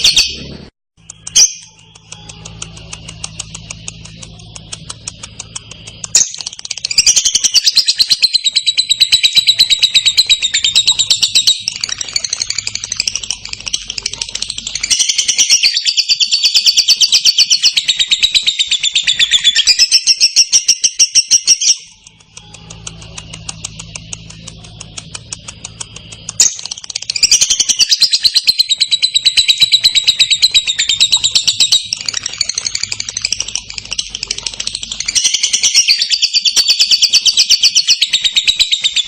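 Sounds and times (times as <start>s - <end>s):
lovebird chattering trill: 0.0s - 39.0s.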